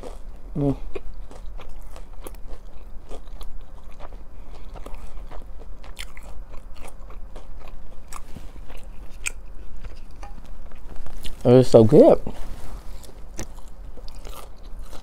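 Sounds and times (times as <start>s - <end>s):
person chewing crunchy food: 0.0s - 11.4s, 12.5s - 15.0s.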